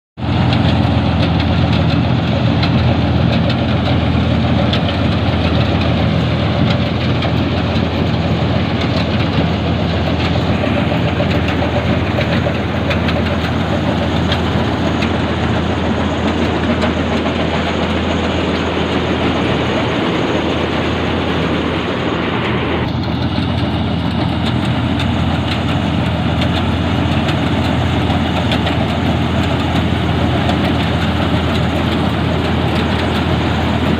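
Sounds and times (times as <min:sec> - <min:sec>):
combine harvester engine hum: 0:00.2 - 0:33.9.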